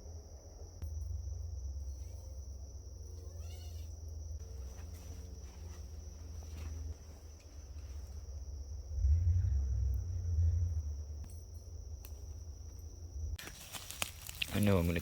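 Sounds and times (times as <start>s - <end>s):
low rumble: 0.0s - 3.3s, 3.9s - 13.4s
insect chorus: 0.0s - 15.0s.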